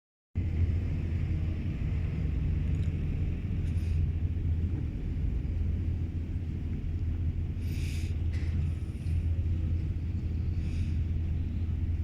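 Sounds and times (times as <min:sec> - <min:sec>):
steady low rumble: 0:00.4 - 0:12.0.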